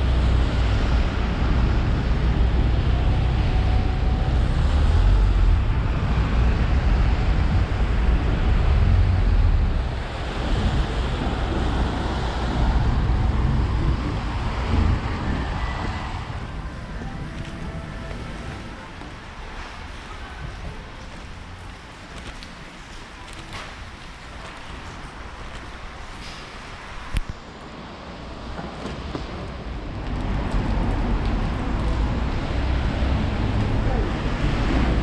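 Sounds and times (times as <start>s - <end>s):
moving train rumble: 0.0s - 35.0s.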